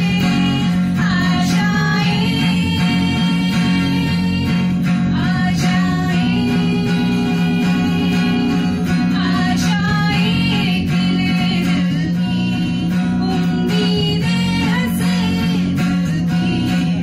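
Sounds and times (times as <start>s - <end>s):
acoustic guitar strumming: 0.0s - 17.0s
people singing into microphones: 0.0s - 17.0s.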